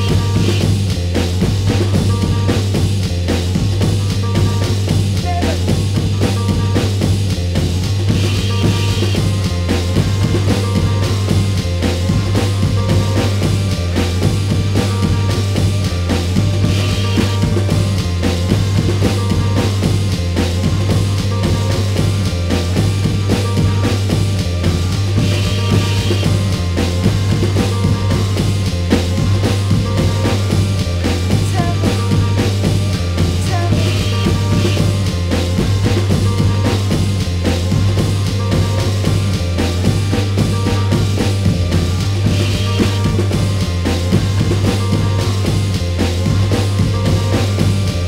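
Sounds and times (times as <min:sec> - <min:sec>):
drum kit beat: 0:00.0 - 0:48.0
low bass drone: 0:00.0 - 0:48.0.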